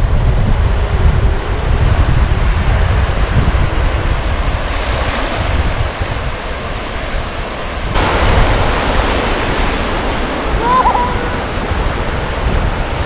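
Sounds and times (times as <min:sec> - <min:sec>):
wind buffeting microphone: 0:00.0 - 0:13.0
surf washing: 0:00.8 - 0:13.0.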